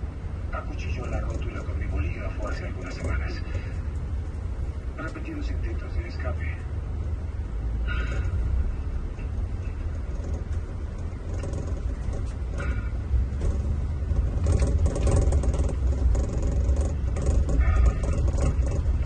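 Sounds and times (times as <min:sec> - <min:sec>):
coach engine and road rumble: 0:00.0 - 0:19.0
interior rattles and clicks: 0:00.0 - 0:19.0.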